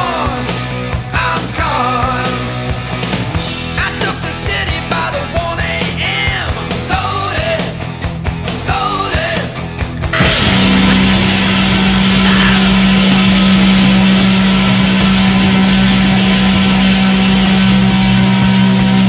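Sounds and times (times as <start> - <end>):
loud distorted rock music: 0.0 - 19.0.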